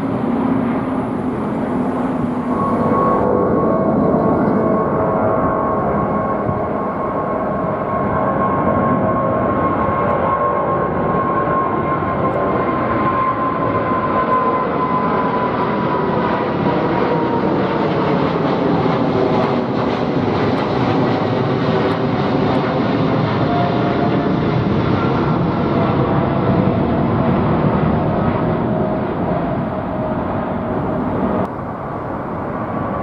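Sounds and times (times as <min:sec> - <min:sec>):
jet engine whine: 0:00.0 - 0:33.0
jet roar overhead: 0:00.0 - 0:33.0.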